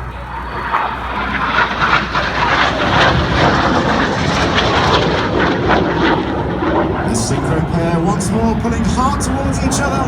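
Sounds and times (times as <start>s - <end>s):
jets flying past: 0.0s - 10.0s.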